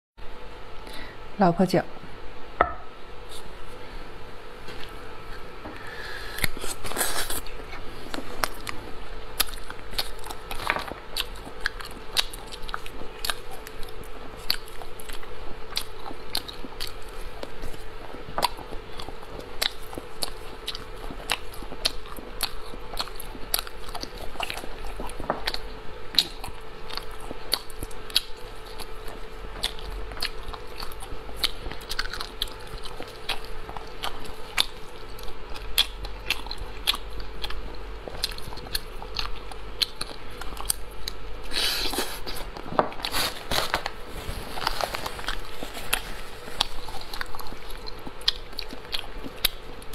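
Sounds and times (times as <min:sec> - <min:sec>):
faint steady hum: 0:00.2 - 0:49.9
wet chewing and crunching: 0:06.2 - 0:49.9.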